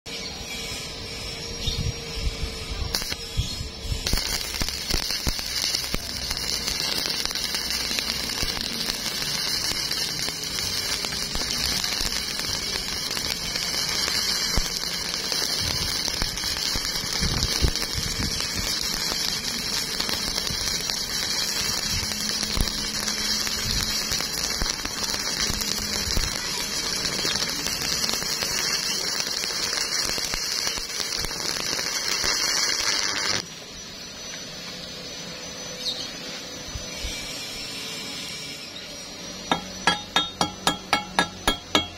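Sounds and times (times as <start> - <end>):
welding arc crackling and hissing: 0.1 - 41.9.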